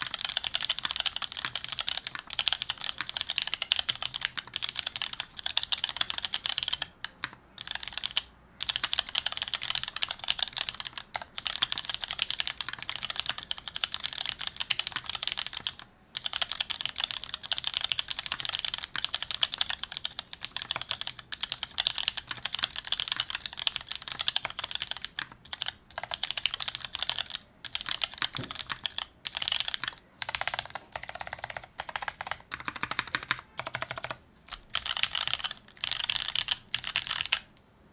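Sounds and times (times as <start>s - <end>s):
fast typing on mechanical keyboard: 0.0s - 37.5s.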